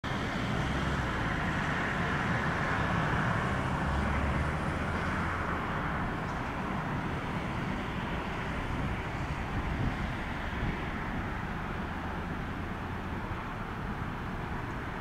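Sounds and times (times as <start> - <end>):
road and traffic noise: 0.0 - 15.0
vehicle engines running: 0.1 - 15.0.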